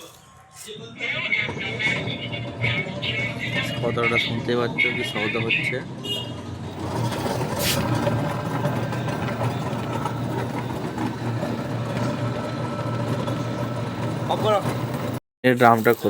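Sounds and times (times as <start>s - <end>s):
wheel bearing rough noise: 1.0s - 15.2s.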